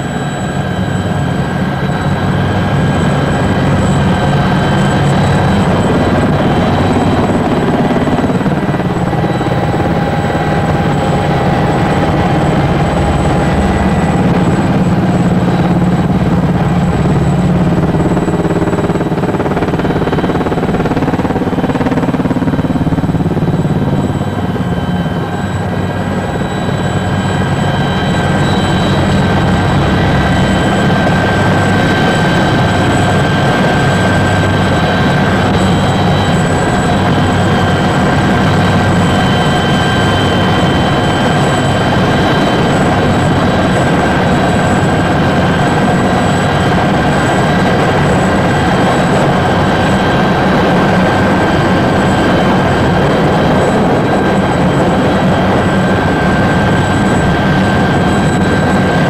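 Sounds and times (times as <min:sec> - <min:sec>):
helicopter drone: 0:00.0 - 0:59.0
high turbine whine: 0:00.0 - 0:59.0.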